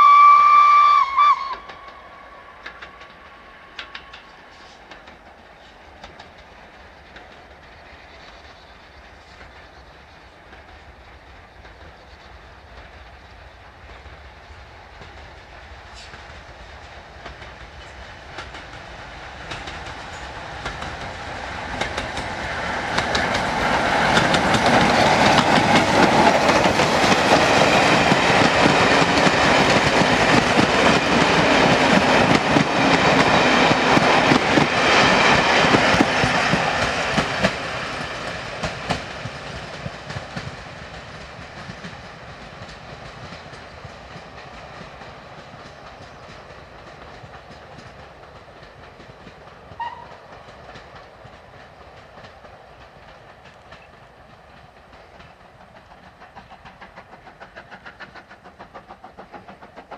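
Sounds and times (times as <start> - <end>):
steam locomotive passing: 0.0 - 59.9.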